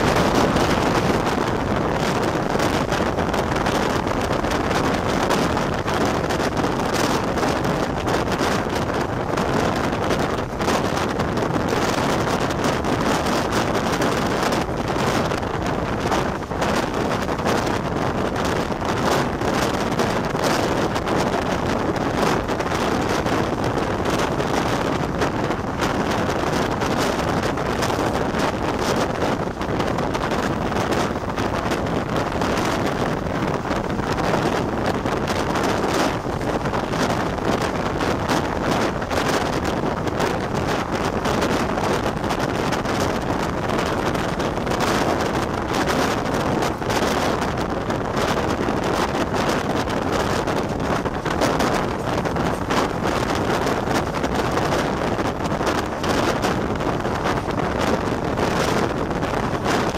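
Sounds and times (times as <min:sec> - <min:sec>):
train wheels rumbling on rails: 0:00.0 - 0:59.9
wind buffeting microphone: 0:00.0 - 0:59.9.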